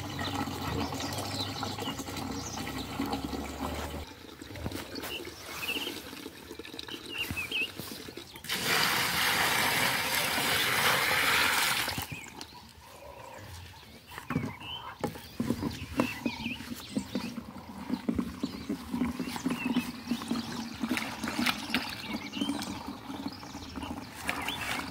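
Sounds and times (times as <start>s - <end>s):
water pouring into plastic basin: 0.0s - 12.4s, 15.4s - 24.9s.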